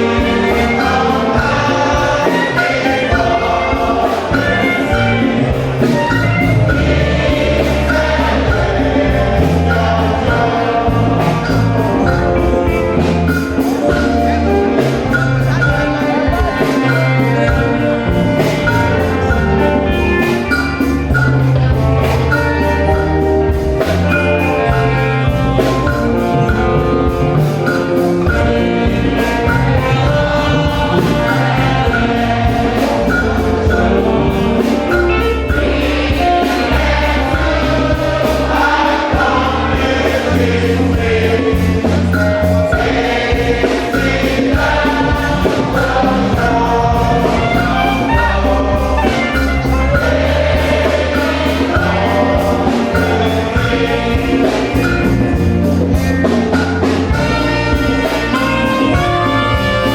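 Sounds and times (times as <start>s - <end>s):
bass line: 0.0s - 59.9s
choir singing a gospel hymn: 0.0s - 59.9s
percussion beat: 0.0s - 59.9s.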